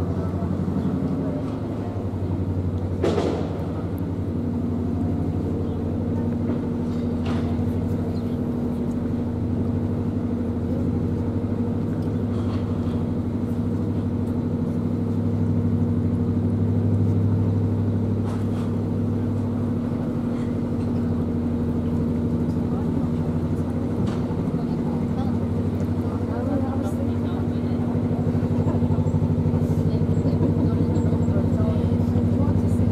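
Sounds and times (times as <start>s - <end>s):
boat engine humming: 0.0s - 32.9s.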